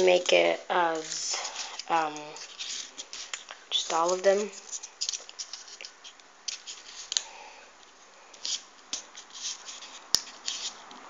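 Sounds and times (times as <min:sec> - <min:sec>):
paper rustling and scraping: 0:00.0 - 0:07.2, 0:08.4 - 0:11.0.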